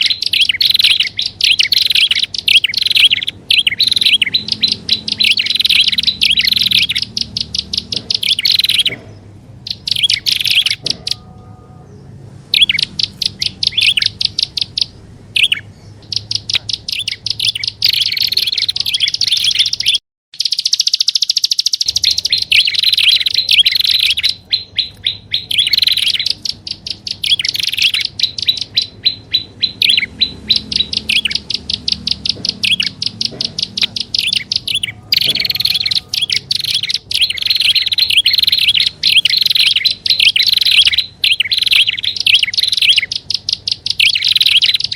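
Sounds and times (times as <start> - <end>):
bird chattering calls: 0.0 - 44.9.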